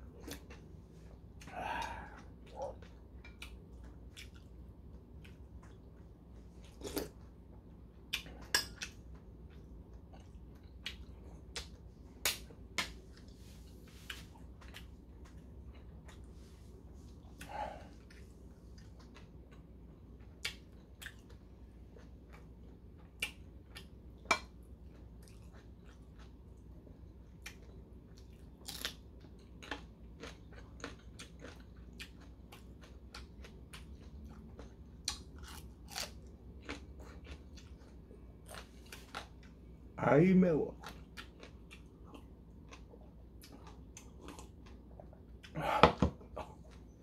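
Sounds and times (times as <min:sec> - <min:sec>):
man chewing with crunches: 0:00.0 - 0:40.0, 0:40.7 - 0:47.0.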